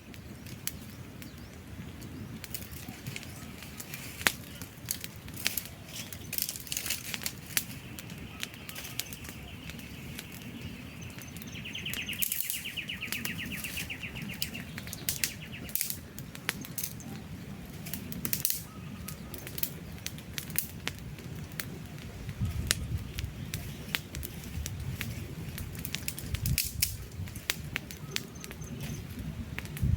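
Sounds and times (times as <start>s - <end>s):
campfire crackling: 0.0s - 29.9s
flames rumbling: 0.0s - 29.9s.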